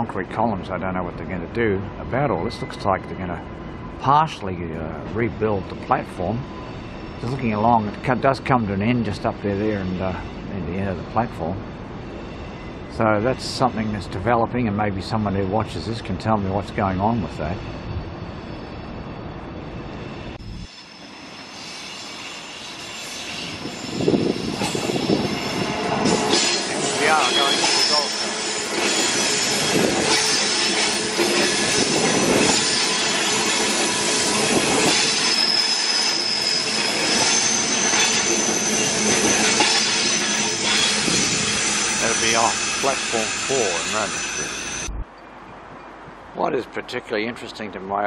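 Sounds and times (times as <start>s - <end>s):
electric train passing: 0.0s - 48.0s
train wheels squealing: 1.6s - 44.9s.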